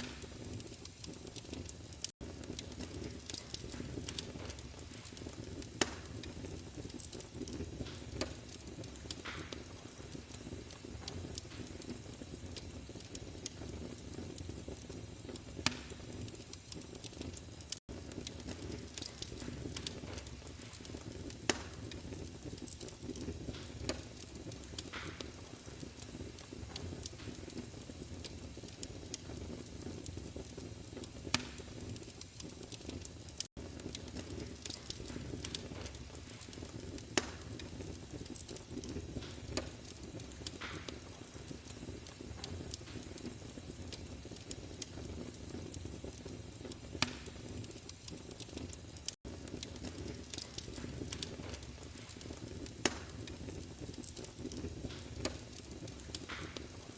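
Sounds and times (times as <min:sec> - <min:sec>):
sharp pops of fire: 0:00.0 - 0:56.9
wood fire crackling: 0:00.0 - 0:56.9.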